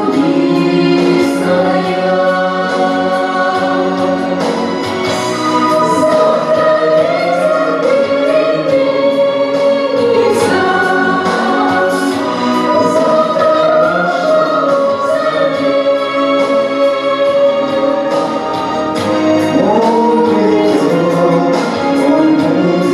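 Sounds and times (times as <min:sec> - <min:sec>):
choir singing long notes: 0:00.0 - 0:22.9.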